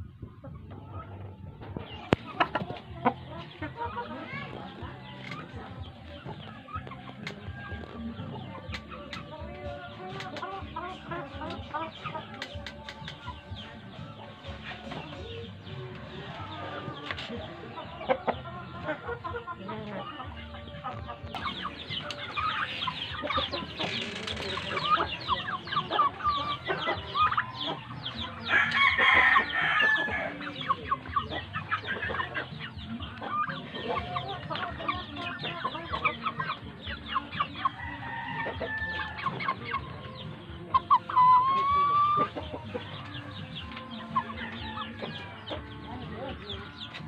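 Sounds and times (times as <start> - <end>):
chicks peeping and clucking: 0.0 - 47.0.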